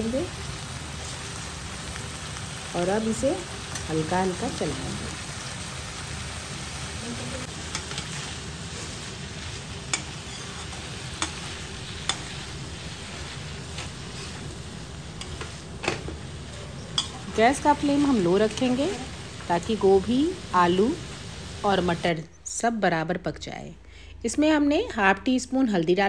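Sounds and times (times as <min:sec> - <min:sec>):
vegetables sizzling in oil: 0:00.0 - 0:22.2.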